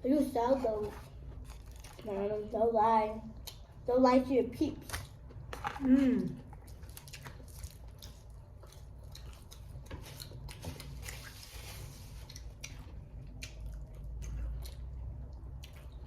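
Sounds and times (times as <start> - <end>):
low steady hum: 0.0 - 16.0
chewing and eating: 0.6 - 2.6, 3.3 - 3.9, 4.8 - 16.0.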